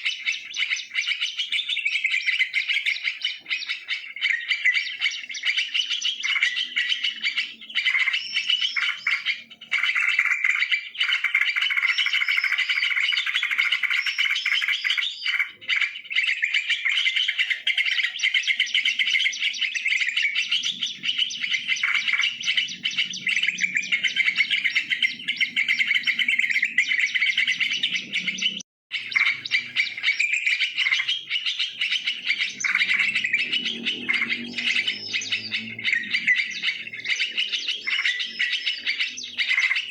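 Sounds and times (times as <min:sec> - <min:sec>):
bulbuls chattering and chirping: 0:00.0 - 0:39.9.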